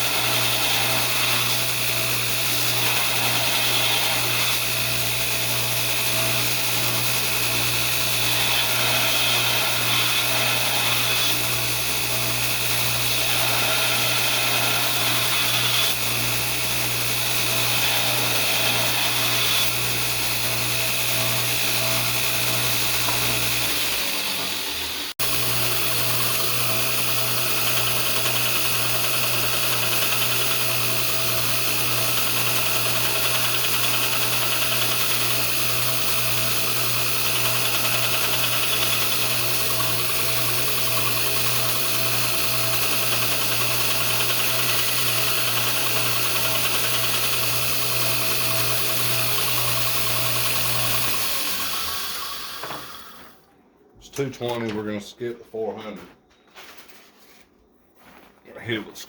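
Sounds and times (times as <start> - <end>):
belt grinder grinding steel: 0.0 - 53.4.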